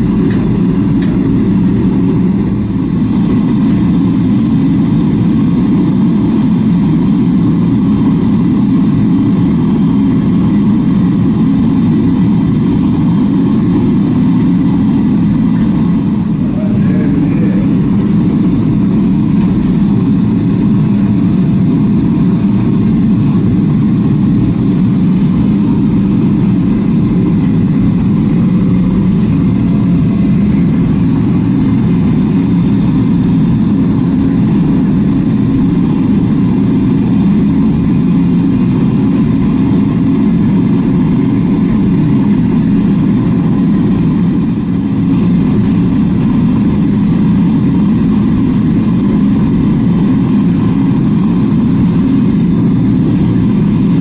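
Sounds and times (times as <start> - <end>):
machine droning: 0.0 - 54.0.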